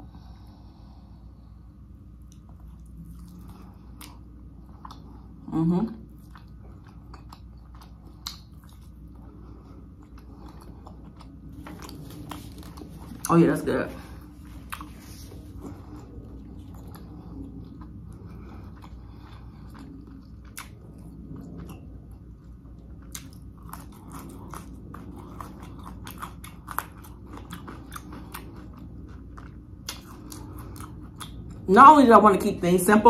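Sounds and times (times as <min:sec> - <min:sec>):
chewing food: 0:02.1 - 0:13.4, 0:14.0 - 0:31.7.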